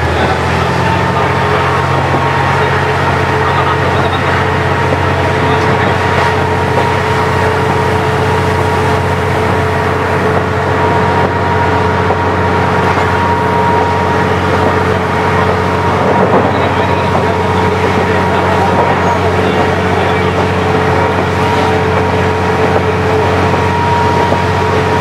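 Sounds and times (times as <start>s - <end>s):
diesel engine drone: 0.0s - 25.0s
steady high whine: 0.0s - 25.0s.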